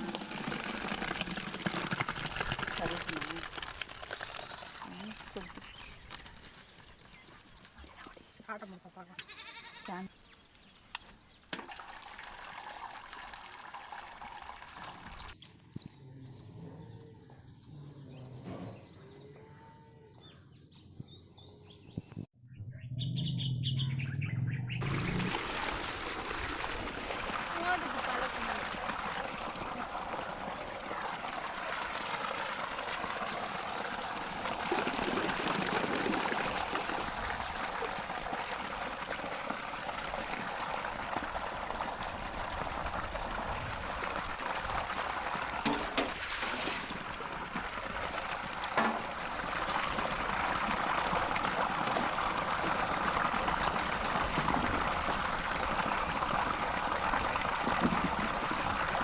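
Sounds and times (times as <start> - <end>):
water trickling and splashing: 0.0 - 15.4, 24.8 - 59.0.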